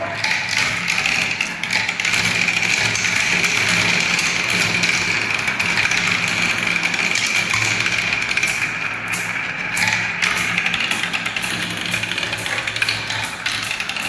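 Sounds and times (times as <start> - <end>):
balls rattling down marble run: 0.0 - 14.0.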